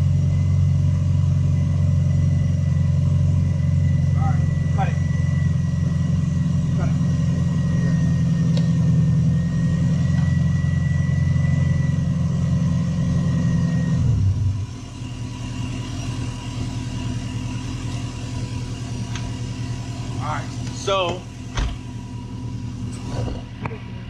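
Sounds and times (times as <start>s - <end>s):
car engine idling with whine: 0.0s - 24.0s
quiet engine hum: 0.0s - 24.0s.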